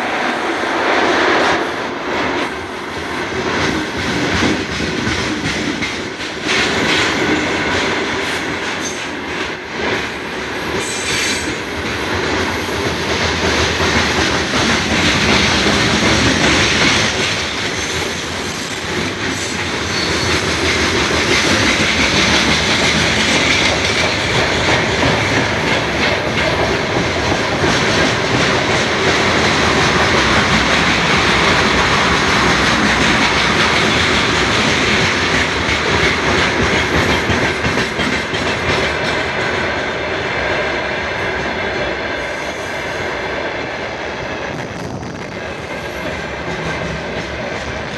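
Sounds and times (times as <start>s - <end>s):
rails creaking: 0.0s - 47.9s
train wheels clattering over rail joints: 2.9s - 47.9s.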